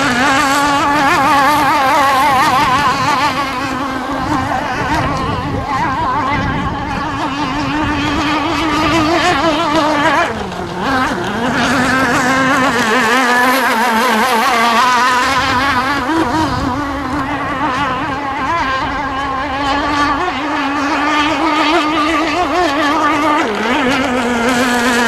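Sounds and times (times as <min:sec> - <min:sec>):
two-stroke boat engine running: 0:00.0 - 0:25.0.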